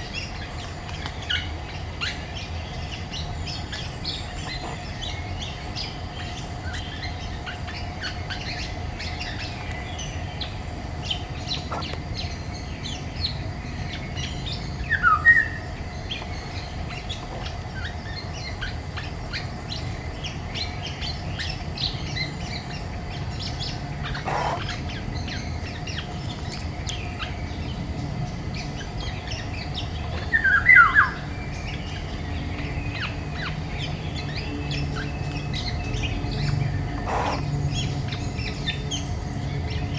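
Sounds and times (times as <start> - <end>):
loud falling bird calls: 0.0 - 39.9
small birds chirping: 0.0 - 39.9.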